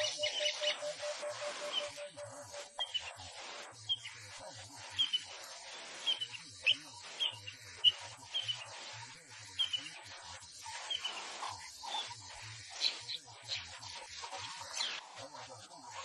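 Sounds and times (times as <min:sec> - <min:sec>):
birds chirping: 0:00.0 - 0:03.2, 0:03.8 - 0:15.1.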